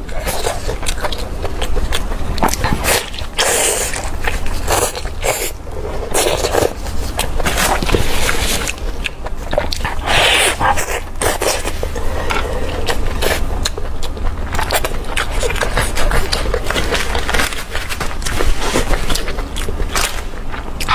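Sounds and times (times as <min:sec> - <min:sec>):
person chewing food: 0:00.0 - 0:20.9.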